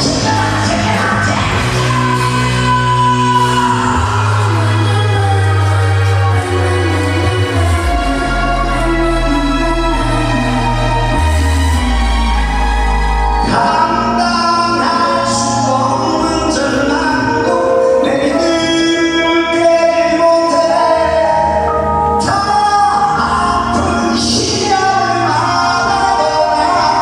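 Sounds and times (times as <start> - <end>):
song with heavy bass: 0.0 - 27.0.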